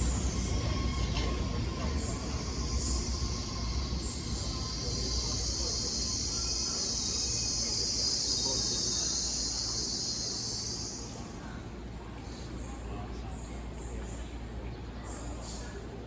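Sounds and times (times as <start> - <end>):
low train rumble: 0.0 - 16.0.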